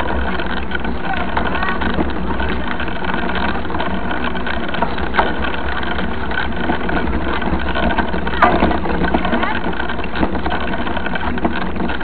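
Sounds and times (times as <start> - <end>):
bike tyres on dirt road: 0.0 - 12.0.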